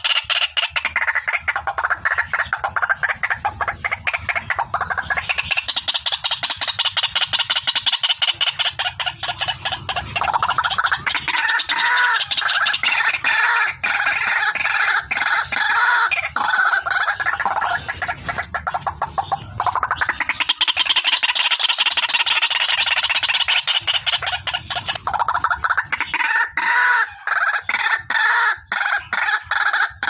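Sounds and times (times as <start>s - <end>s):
waterhen calling harsh notes: 0.0s - 30.0s.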